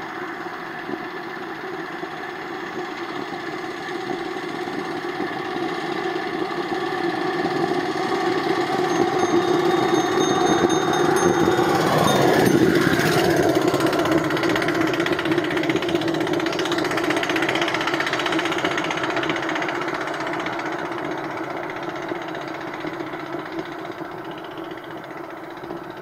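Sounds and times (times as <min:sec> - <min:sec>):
steam engine chuffing: 0:00.0 - 0:26.0.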